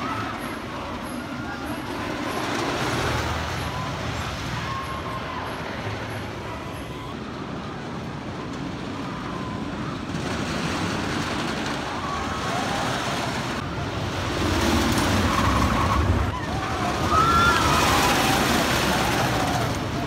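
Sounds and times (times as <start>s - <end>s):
theme park background roar: 0.0s - 20.0s.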